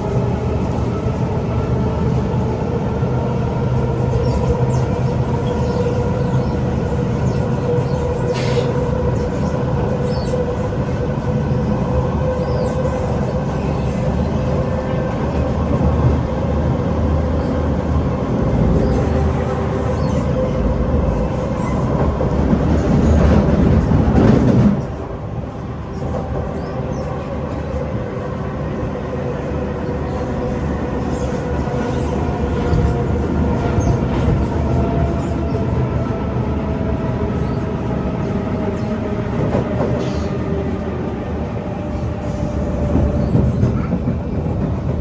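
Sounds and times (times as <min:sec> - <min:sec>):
train wheels rumbling on track: 0:00.0 - 0:45.0
train whines sliding in pitch: 0:00.0 - 0:45.0.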